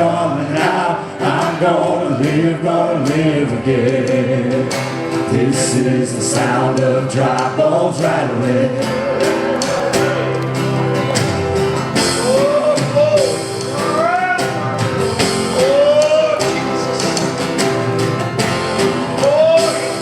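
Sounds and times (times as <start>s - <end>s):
person singing: 0.0s - 10.4s, 12.0s - 20.0s
rock band playing: 0.0s - 20.0s.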